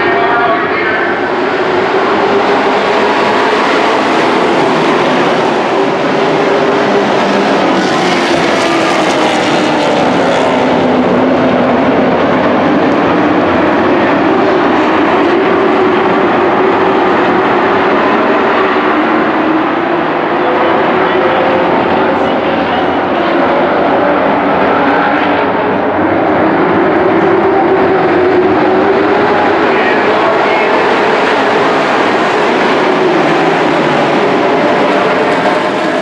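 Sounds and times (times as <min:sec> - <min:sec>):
racing truck engines droning: 0:00.0 - 0:36.0.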